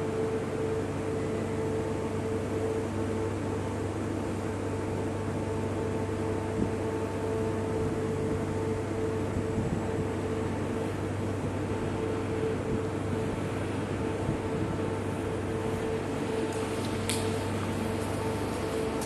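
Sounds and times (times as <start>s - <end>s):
electric fans humming: 0.0s - 19.0s.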